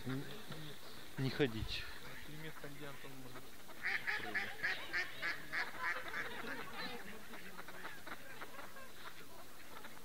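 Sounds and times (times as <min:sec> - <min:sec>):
ducks quacking: 0:01.3 - 0:10.0.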